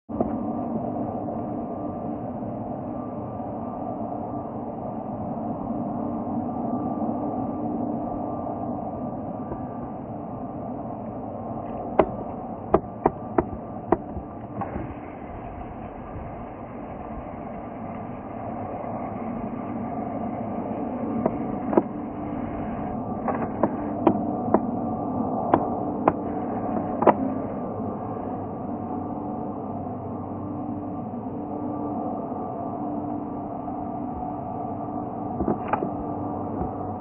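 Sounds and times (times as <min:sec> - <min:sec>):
jet engine rumble: 0:00.1 - 0:37.0.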